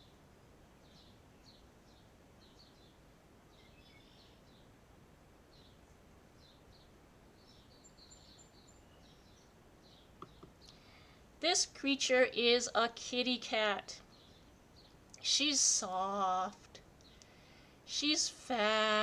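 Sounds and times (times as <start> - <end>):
faint birds chirping: 0.0 - 19.0
low steady background noise: 0.0 - 19.0.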